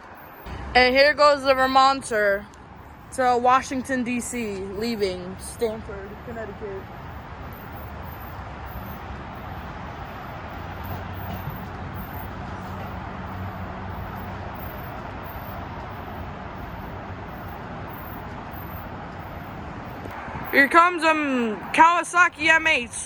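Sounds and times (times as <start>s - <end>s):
train rumbling: 0.0s - 21.8s.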